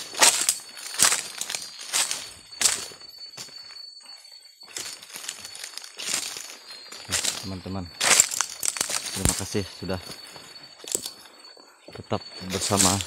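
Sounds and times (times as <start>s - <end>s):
footsteps crunching through dry leaves: 0.0s - 13.0s.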